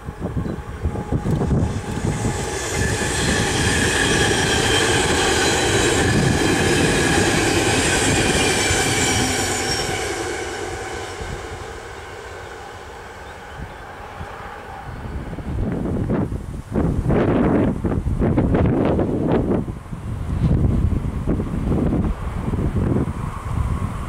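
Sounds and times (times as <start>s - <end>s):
high train whine: 0.0s - 24.0s
train passing at speed: 0.0s - 24.0s.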